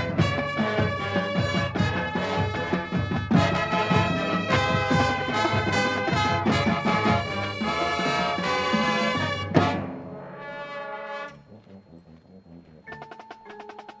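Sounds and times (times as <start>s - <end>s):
marching band brass and drums: 0.0s - 11.5s.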